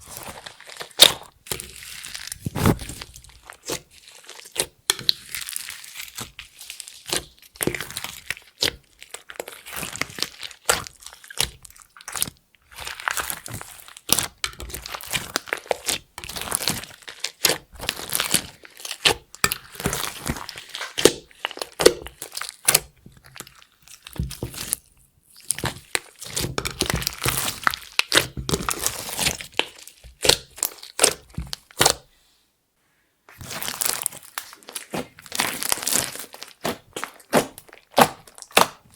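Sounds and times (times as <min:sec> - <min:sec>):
slime squelching and crackling: 0:00.0 - 0:32.1, 0:33.3 - 0:38.9.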